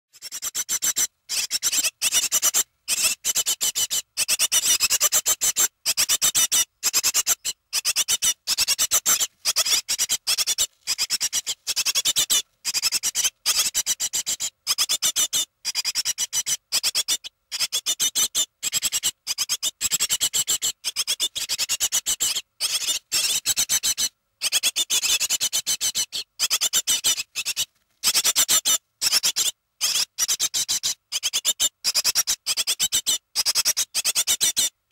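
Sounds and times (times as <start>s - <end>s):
nestling birds squeaking: 0.2s - 34.8s.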